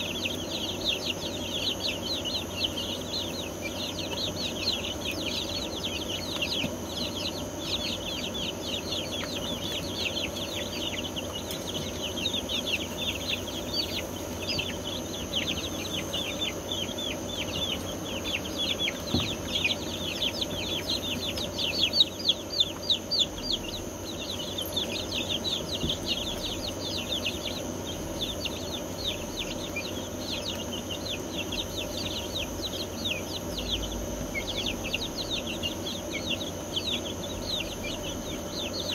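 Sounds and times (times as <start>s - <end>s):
chicks peeping: 0.0s - 38.9s
steady high whine: 0.0s - 38.9s.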